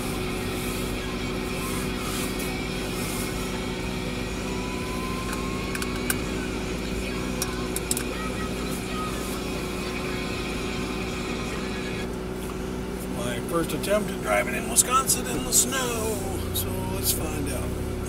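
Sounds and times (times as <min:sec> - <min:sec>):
car idling hum: 0:00.0 - 0:18.0.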